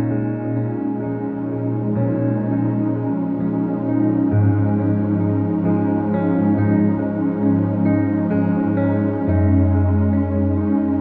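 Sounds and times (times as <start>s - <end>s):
calm ambient keyboard music: 0.0s - 11.0s
steady bass: 0.0s - 11.0s.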